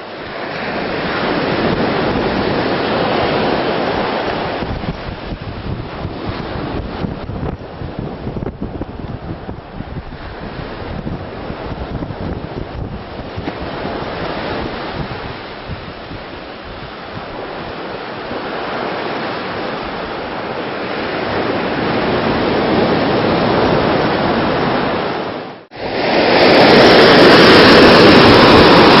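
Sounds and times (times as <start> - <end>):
ocean surf on beach: 0.0 - 29.0
wind on microphone: 0.0 - 29.0.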